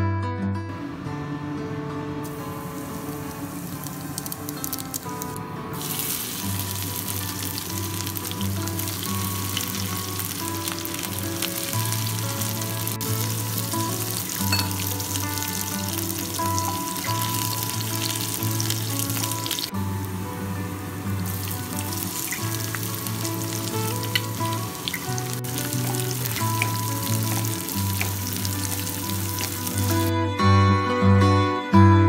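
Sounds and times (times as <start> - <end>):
spices sizzling in hot oil: 2.2 - 30.1.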